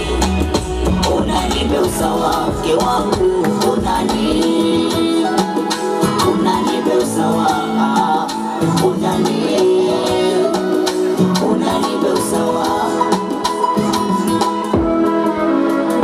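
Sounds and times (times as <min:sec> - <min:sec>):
dance music over loudspeakers: 0:00.0 - 0:16.0.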